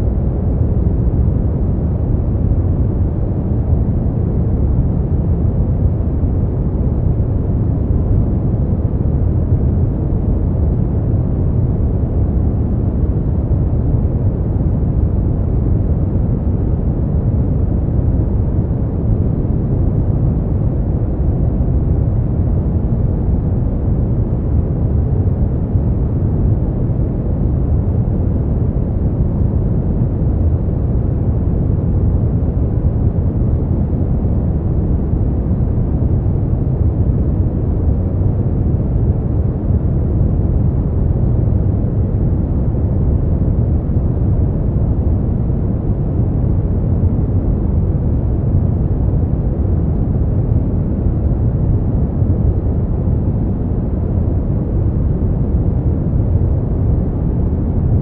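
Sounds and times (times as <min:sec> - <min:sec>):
low steady noise rush: 0:00.0 - 0:58.0.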